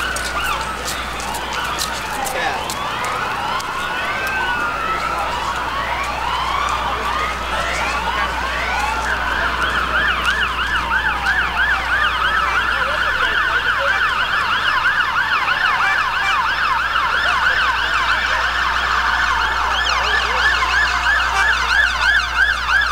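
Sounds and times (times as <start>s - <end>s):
siren fast yelp: 0.0s - 22.9s
sirens wailing: 0.0s - 22.9s.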